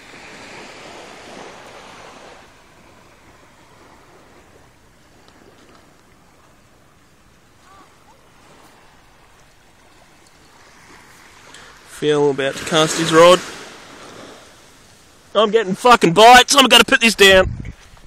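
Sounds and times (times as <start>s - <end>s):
small waves lapping on sand: 0.0s - 16.9s.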